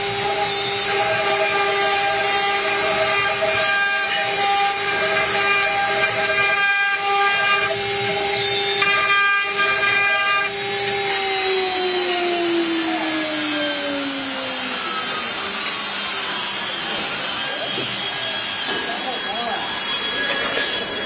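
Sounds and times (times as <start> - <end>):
cnc router spindle whine: 0.0 - 21.0.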